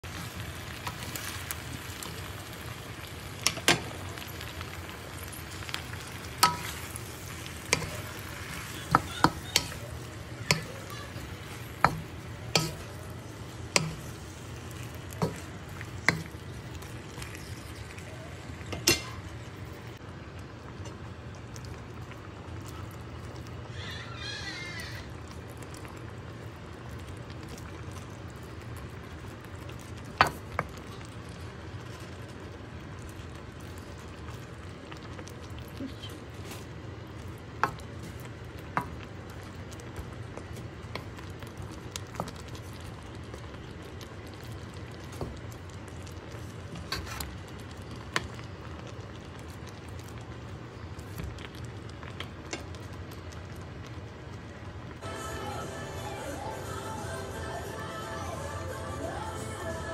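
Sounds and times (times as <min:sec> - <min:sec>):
vegetables sizzling in a wok: 0:00.0 - 0:59.9.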